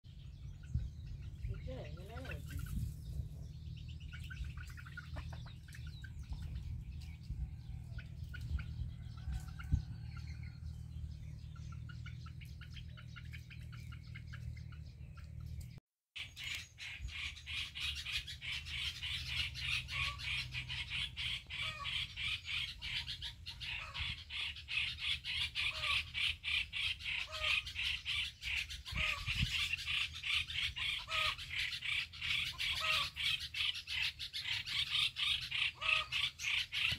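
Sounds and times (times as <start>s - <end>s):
bird chirps: 0.1s - 36.9s
fast high bird chatter: 0.2s - 15.6s, 16.2s - 36.9s.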